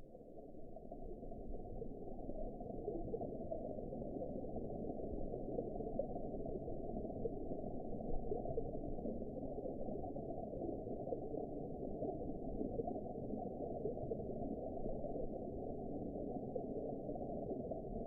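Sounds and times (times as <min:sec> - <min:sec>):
muffled underwater water rush: 0:00.0 - 0:18.0.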